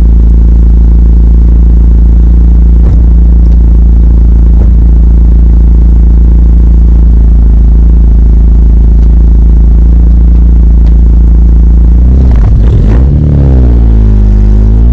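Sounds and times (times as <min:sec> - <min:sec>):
car engine running through exhaust: 0:00.0 - 0:14.9.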